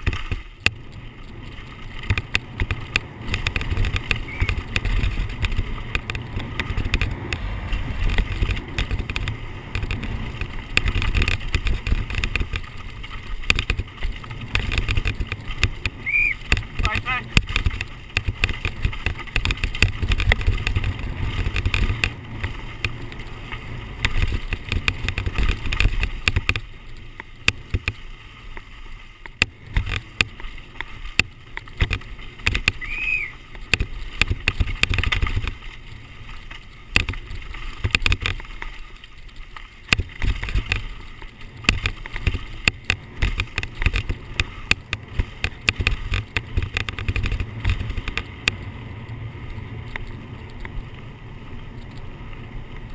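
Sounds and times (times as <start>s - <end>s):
bike rattling and clicking: 0.0s - 52.9s.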